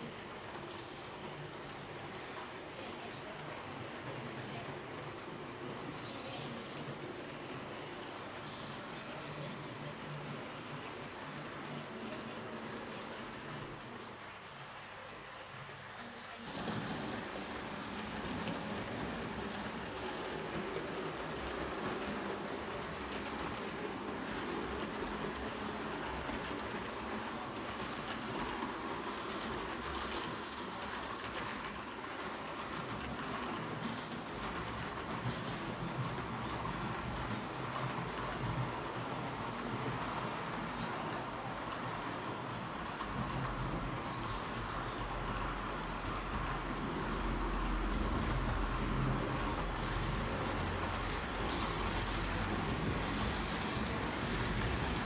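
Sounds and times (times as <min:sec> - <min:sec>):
model train wheels rumbling on rails: 0:00.0 - 0:55.0.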